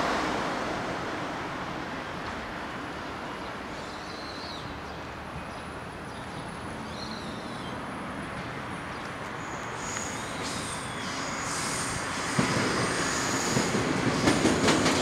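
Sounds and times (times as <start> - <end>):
distant train rumble: 0.0 - 15.0.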